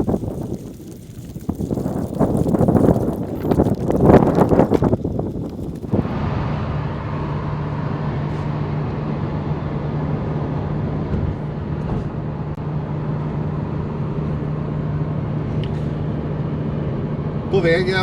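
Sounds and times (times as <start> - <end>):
car engine and tyre noise: 0.0 - 17.8
constant low hum: 0.0 - 18.0.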